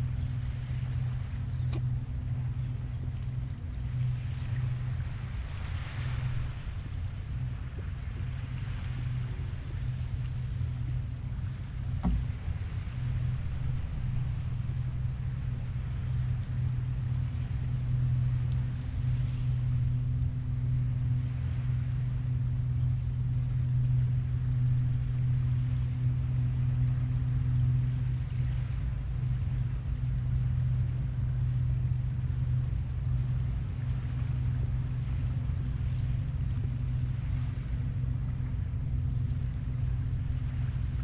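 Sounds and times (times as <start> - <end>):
low engine-like hum: 0.0 - 41.0.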